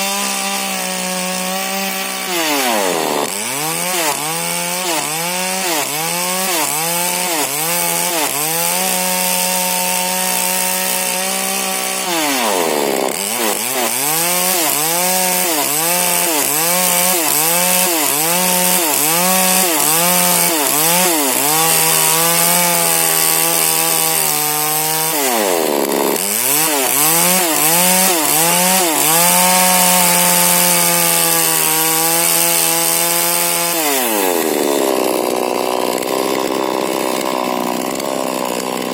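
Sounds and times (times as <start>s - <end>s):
chainsaw revving while cutting wood: 0.0s - 38.9s.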